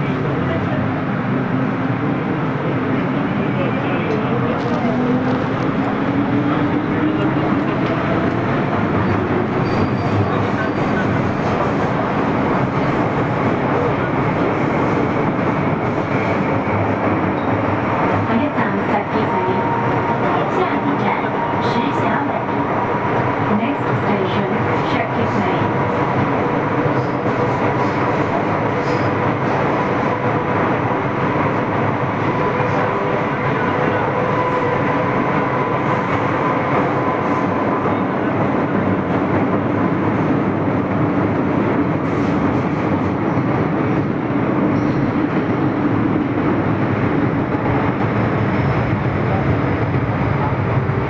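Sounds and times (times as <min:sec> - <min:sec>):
metro train rumbling: 0:00.0 - 0:51.0.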